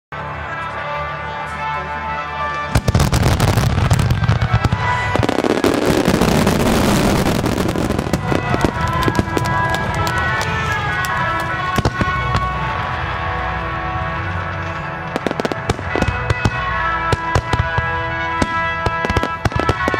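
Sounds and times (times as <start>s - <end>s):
music playing: 0.1s - 19.9s
fireworks bangs and crackling: 2.7s - 19.9s.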